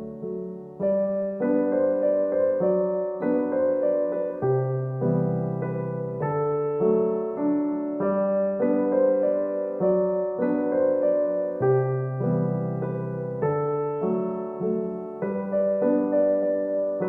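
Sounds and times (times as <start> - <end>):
electric piano melody: 0.0 - 17.0.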